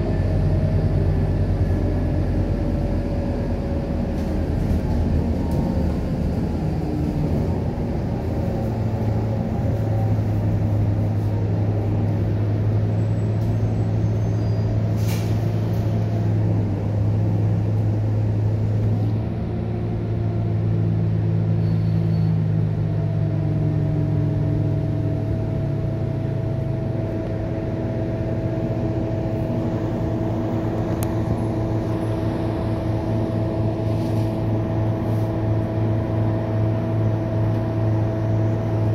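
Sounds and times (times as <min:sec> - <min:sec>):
bus engine drone: 0:00.0 - 0:38.9.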